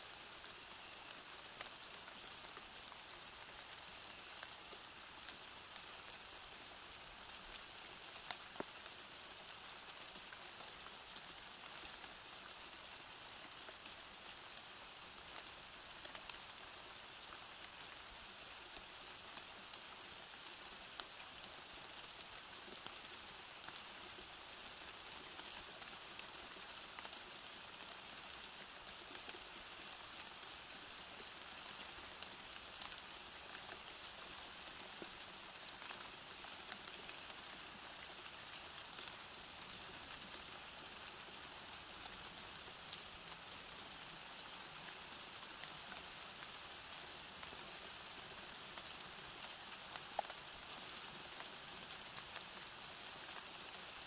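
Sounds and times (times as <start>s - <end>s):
steady rainfall hiss: 0.0s - 54.0s.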